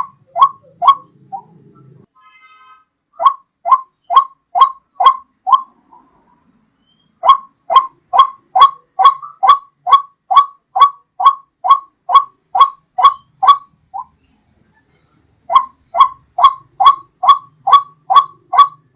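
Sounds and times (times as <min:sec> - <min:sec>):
waterhen calling: 0:00.0 - 0:02.0, 0:03.2 - 0:06.2, 0:06.9 - 0:14.2, 0:15.4 - 0:18.9.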